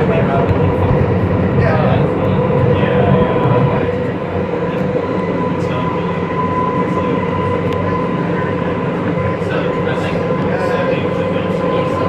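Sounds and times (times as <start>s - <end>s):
steady high whine: 0.0s - 12.0s
subway wheels rumbling on rails: 0.0s - 12.0s.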